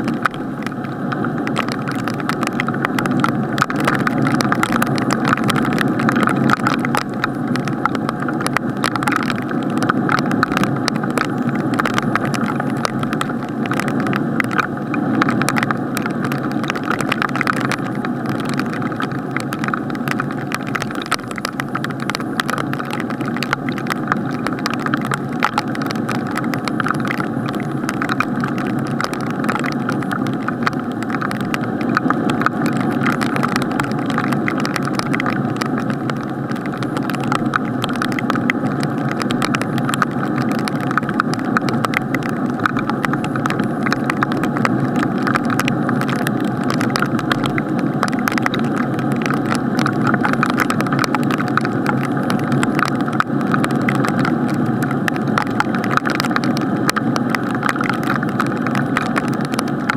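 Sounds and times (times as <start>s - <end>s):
muffled rain on camera housing: 0.0s - 59.9s.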